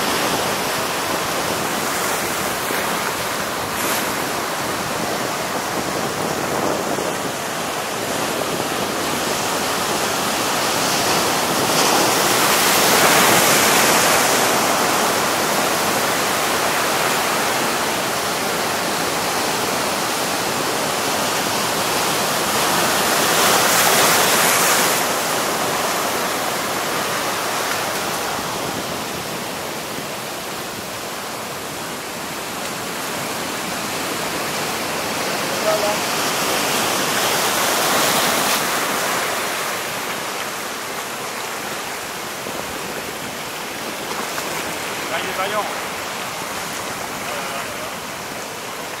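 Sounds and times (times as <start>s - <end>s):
surf breaking over rocks: 0.0s - 49.0s.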